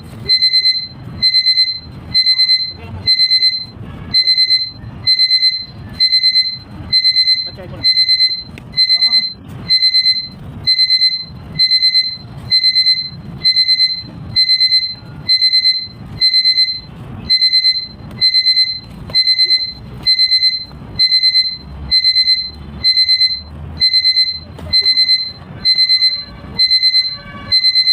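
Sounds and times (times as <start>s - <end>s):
electronic alarm beeping: 0.0s - 27.9s.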